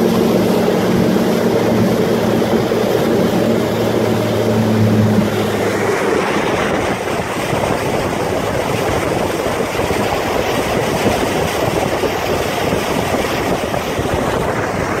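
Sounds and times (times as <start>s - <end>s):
boat engine hum: 0.0s - 15.0s
wind and water rushing: 0.0s - 15.0s.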